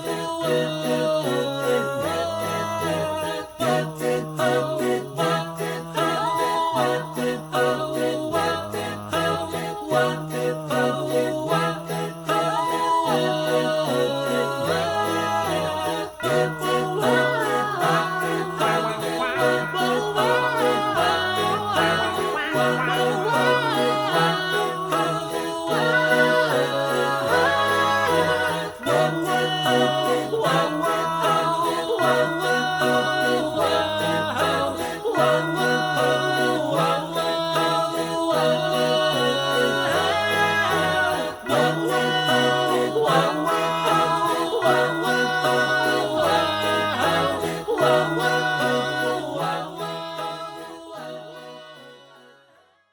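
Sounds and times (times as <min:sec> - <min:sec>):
sleigh bells jingling: 0:00.0 - 0:52.0
wordless sung vocals: 0:00.0 - 0:52.6
christmas music: 0:00.0 - 0:52.9.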